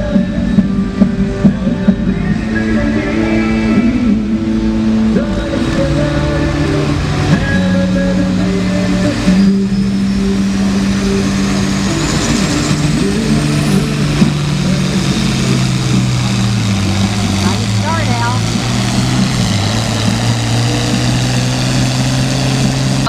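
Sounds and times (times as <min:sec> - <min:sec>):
tractor engine at high revs: 0:00.0 - 0:23.0.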